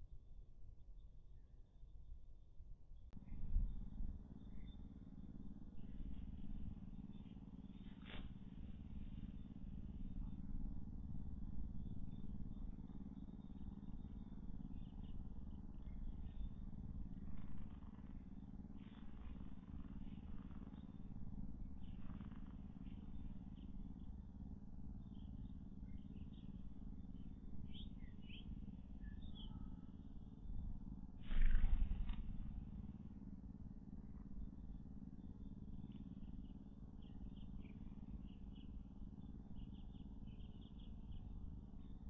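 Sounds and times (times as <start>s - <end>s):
low outdoor rumble: 3.1s - 42.0s.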